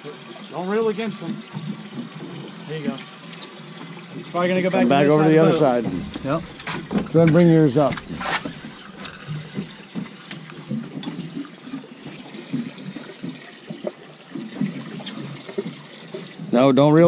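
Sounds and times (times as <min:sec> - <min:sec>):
water sloshing and trickling: 0:00.0 - 0:17.0.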